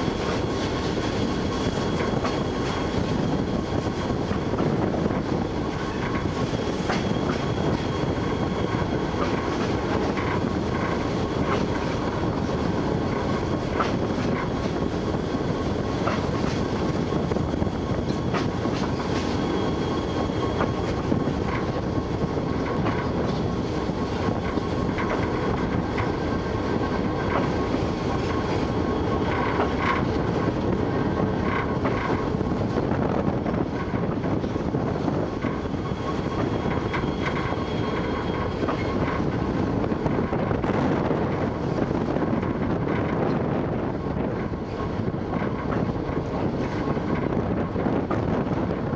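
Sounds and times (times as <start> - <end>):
model train rumbling: 0.0 - 48.9.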